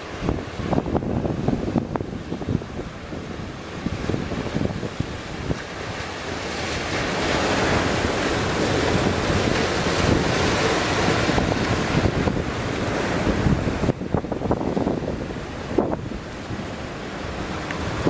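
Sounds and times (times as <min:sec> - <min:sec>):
sea surf breaking: 0:00.0 - 0:18.0
wind buffeting microphone: 0:00.0 - 0:18.0.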